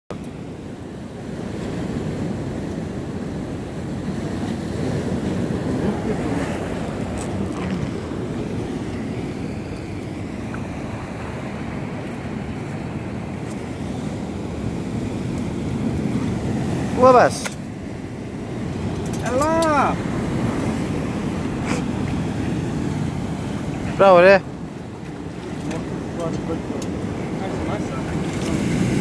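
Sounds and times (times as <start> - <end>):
sea surf: 0.1 - 29.0
wind buffeting microphone: 0.1 - 29.0.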